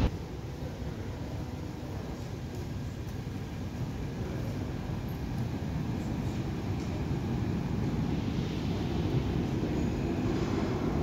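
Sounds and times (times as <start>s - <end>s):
train rumbling in tunnel: 0.0s - 11.0s.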